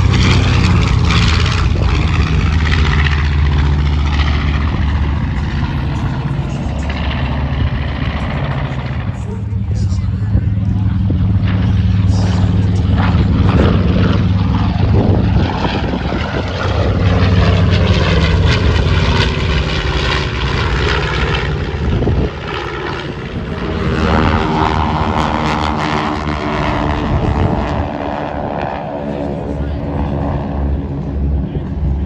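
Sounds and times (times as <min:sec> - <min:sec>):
piston engine bomber droning: 0:00.0 - 0:32.0
propeller planes droning: 0:00.0 - 0:32.0.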